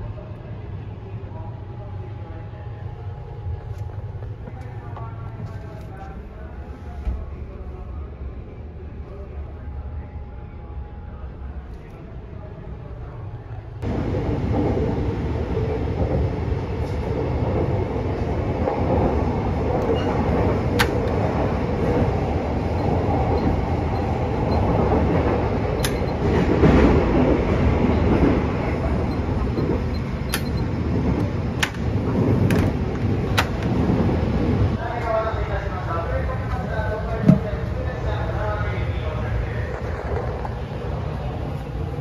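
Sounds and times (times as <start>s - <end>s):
train interior rumble: 0.0s - 42.0s.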